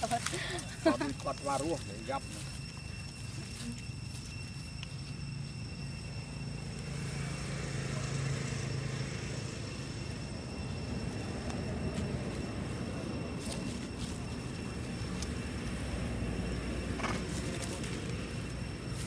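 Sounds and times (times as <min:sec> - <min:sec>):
faint high whine: 0:00.0 - 0:19.0
vehicle engine humming: 0:00.0 - 0:19.0.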